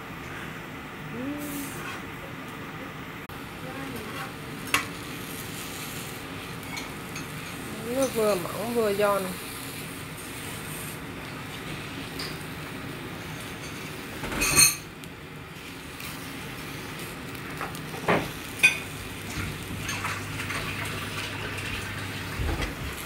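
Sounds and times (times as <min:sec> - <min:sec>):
pancake sizzling in oil: 0:03.6 - 0:23.0.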